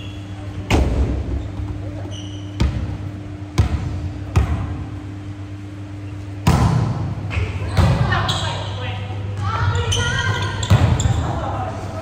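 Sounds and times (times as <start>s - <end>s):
low hum of hall: 0.0s - 12.0s.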